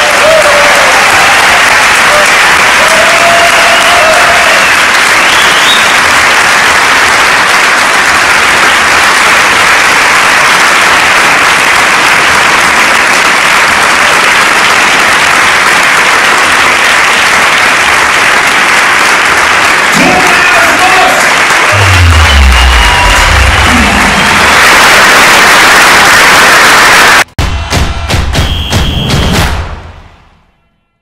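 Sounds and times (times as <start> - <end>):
audience applauding: 0.0 - 27.3.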